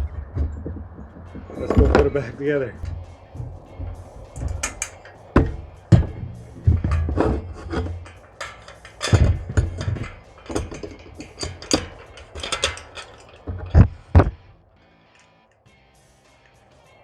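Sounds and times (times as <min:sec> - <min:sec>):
heavy thumps: 0:00.0 - 0:14.7
hard objects clattering: 0:00.0 - 0:15.7.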